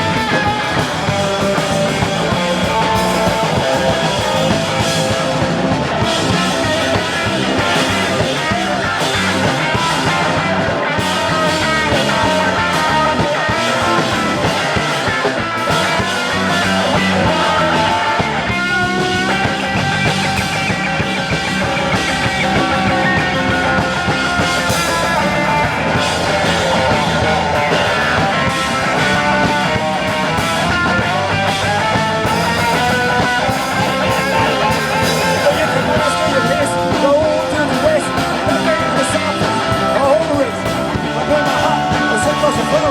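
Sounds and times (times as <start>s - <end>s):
electric guitar: 0.0s - 42.9s
rock band playing live: 0.0s - 42.9s.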